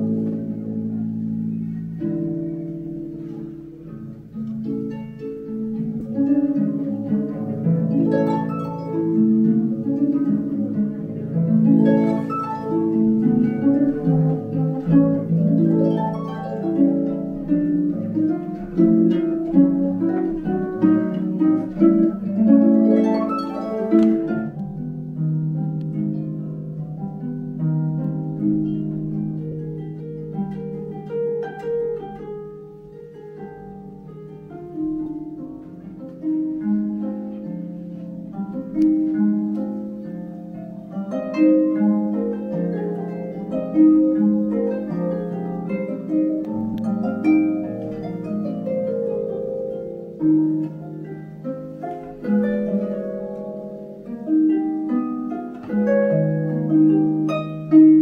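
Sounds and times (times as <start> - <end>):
harp playing solo: 0.0 - 58.0.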